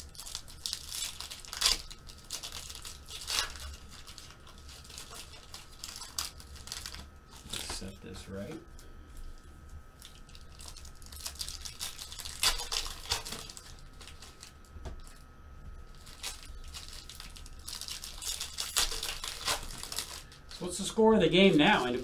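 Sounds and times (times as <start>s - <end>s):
foil wrapper tearing and crinkling: 0.0s - 8.4s, 10.0s - 15.2s, 15.8s - 22.0s.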